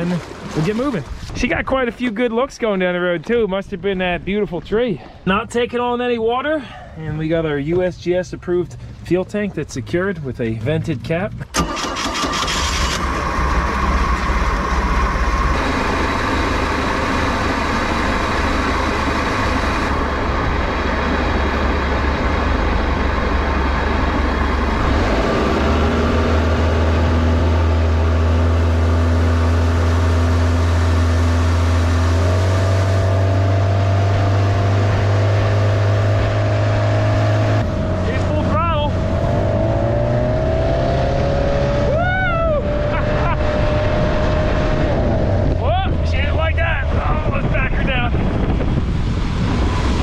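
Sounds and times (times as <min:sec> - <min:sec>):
boat engine running: 0:00.0 - 0:01.9, 0:07.1 - 0:50.0.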